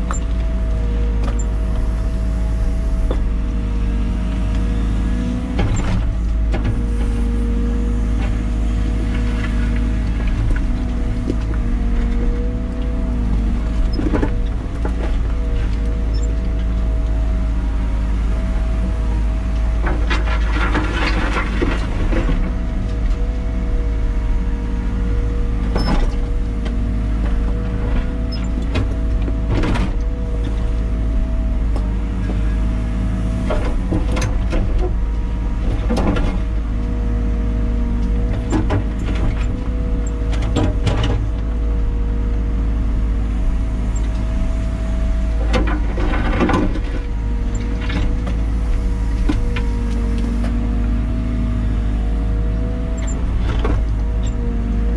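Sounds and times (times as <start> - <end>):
excavator engine drone: 0.0 - 54.9.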